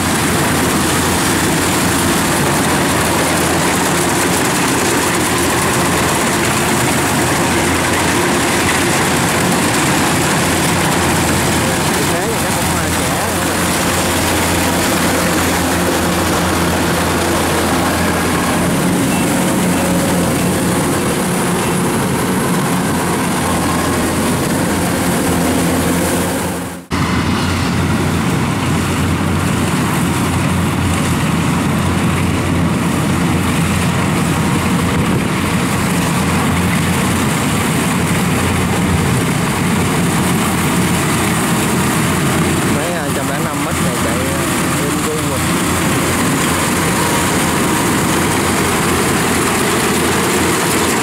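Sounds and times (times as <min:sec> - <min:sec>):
combine harvester diesel engine running: 0:00.0 - 0:51.0.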